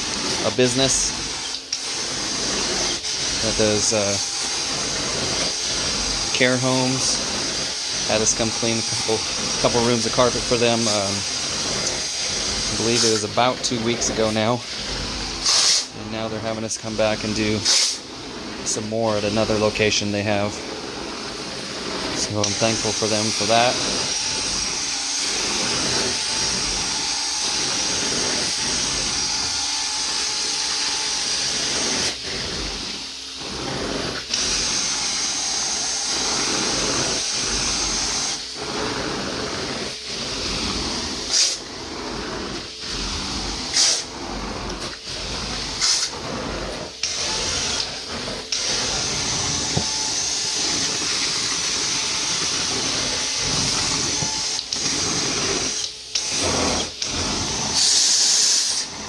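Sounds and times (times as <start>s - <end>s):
extraction wand suction hiss: 0.0s - 59.0s.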